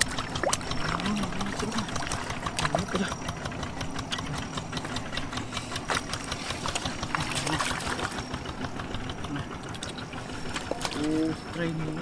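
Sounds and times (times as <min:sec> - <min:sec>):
small motor running: 0:00.0 - 0:12.0.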